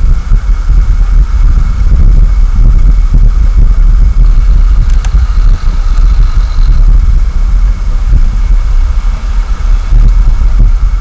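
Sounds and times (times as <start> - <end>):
faint high hum: 0.0 - 11.0
wind buffeting microphone: 0.0 - 11.0.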